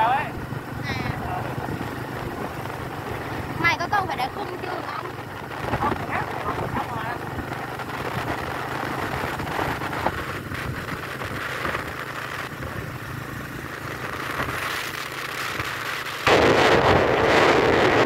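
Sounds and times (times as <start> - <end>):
wind buffeting microphone: 0.0 - 14.7
motorbike engine running: 0.0 - 18.0
road noise: 0.0 - 18.0.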